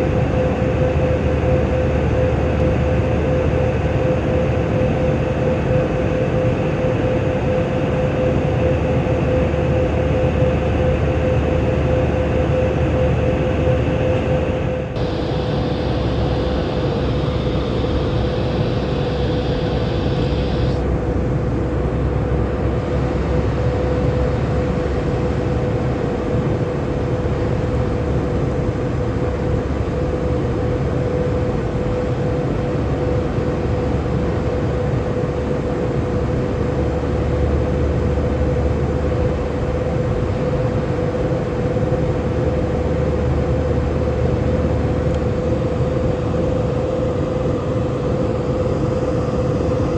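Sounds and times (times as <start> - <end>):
jet engines heard from cabin: 0.0 - 49.9.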